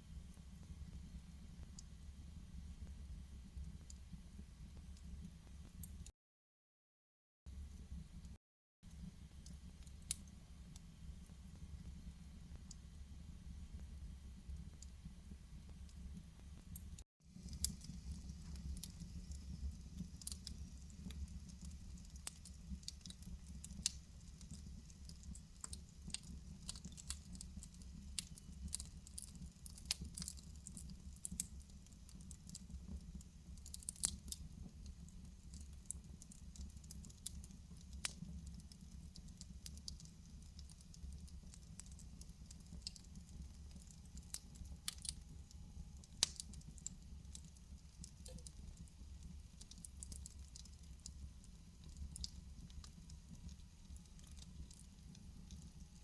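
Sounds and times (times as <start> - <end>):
low rumble of flames: 0.0 - 6.1, 8.9 - 56.0
fire crackling and popping: 8.9 - 56.0.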